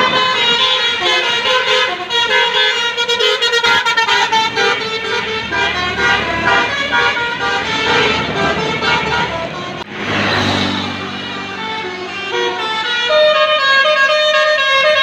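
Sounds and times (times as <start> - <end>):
bus horn playing a melody: 0.0 - 9.9, 10.8 - 15.0.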